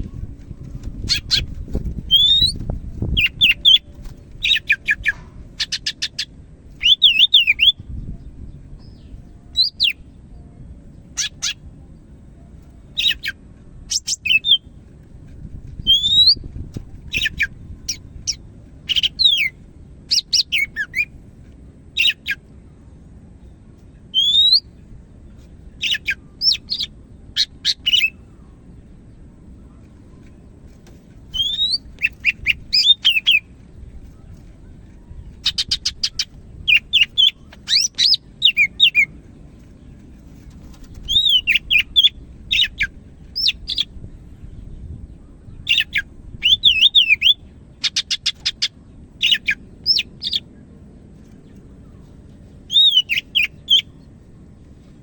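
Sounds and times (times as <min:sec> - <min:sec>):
bird singing varied song: 0:00.0 - 0:14.8, 0:15.5 - 0:21.2, 0:21.9 - 0:54.7
low background rumble: 0:00.0 - 0:55.0.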